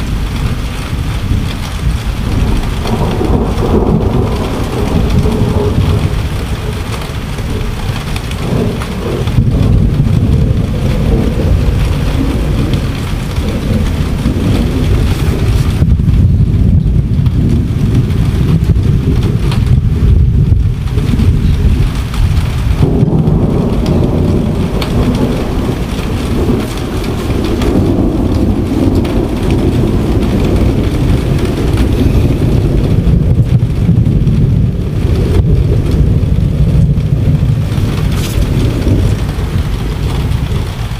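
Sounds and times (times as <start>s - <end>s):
rain falling: 0.0s - 40.9s
thunder rumbling: 0.0s - 40.9s.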